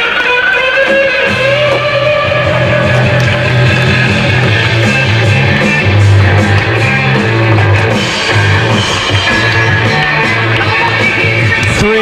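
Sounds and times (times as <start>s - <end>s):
bass line: 0.0s - 12.0s
rock electric guitar: 0.0s - 12.0s.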